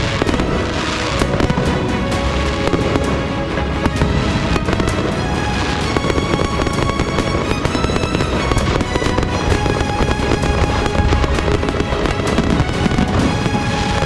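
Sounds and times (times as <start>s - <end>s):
steady tones: 0.0s - 14.0s.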